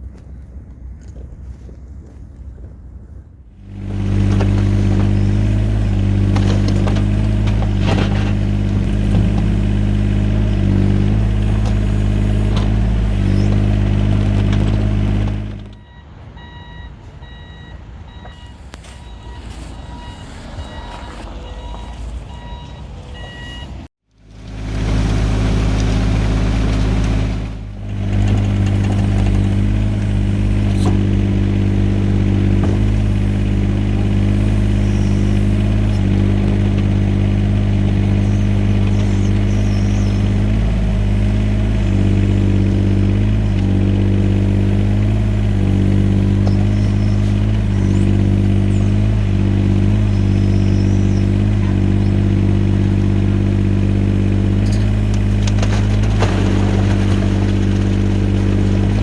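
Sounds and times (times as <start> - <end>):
excavator diesel engine running: 3.4 - 59.0.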